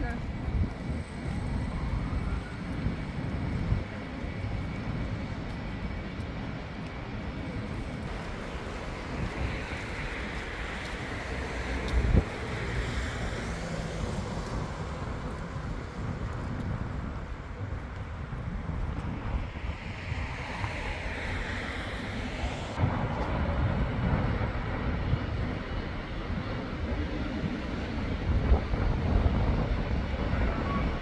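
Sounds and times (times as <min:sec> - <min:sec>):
passing traffic: 0:00.0 - 0:31.0
wind buffeting microphone: 0:00.0 - 0:31.0.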